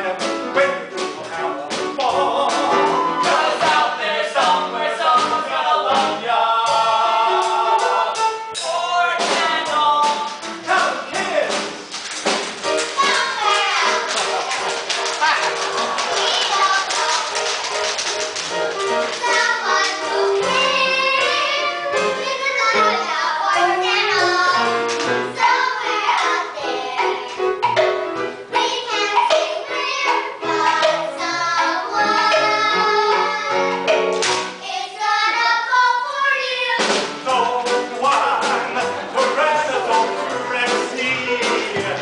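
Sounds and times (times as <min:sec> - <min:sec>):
children singing: 0:00.0 - 0:11.1, 0:12.8 - 0:42.0
instrumental accompaniment: 0:00.0 - 0:35.8, 0:36.6 - 0:42.0.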